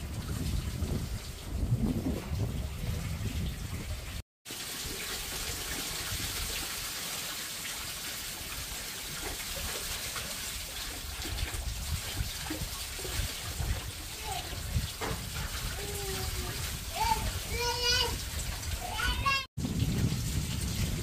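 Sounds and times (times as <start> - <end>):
running water rushing: 0.0 - 21.0.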